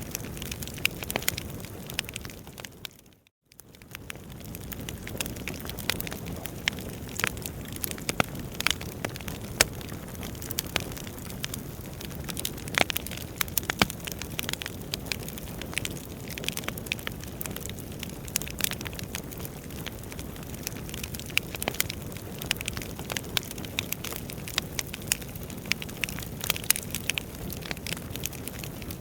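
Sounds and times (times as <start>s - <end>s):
fire flames rumbling: 0.0s - 29.0s
logs crackling and popping: 0.0s - 29.0s.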